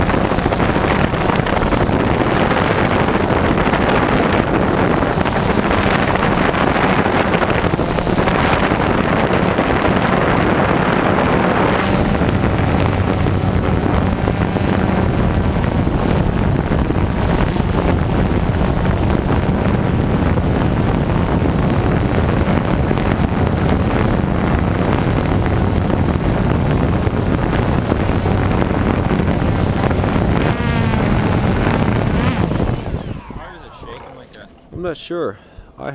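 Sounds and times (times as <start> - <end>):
drone propellers humming: 0.0 - 35.9
wind on microphone: 0.0 - 35.9.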